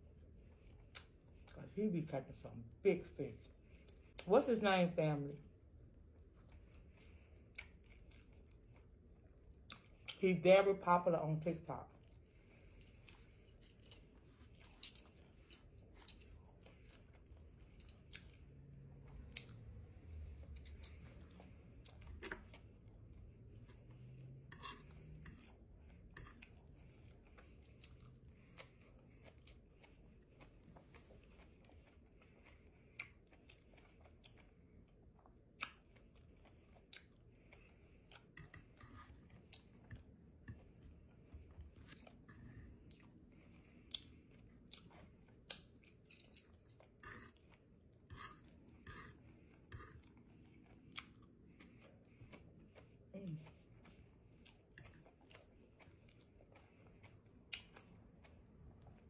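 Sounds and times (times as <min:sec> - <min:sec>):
wet chewing and mouth clicks: 0:00.2 - 0:01.6, 0:05.7 - 0:10.2, 0:11.9 - 0:59.0.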